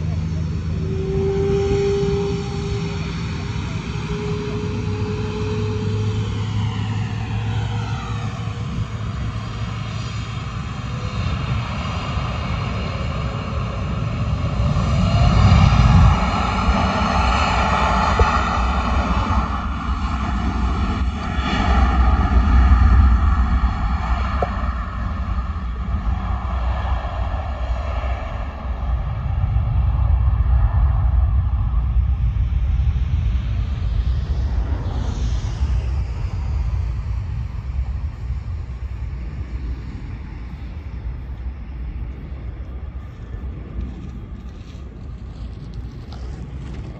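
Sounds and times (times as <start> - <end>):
falling engine whine: 0.0 - 46.9
jet engines roaring at takeoff: 0.0 - 46.9.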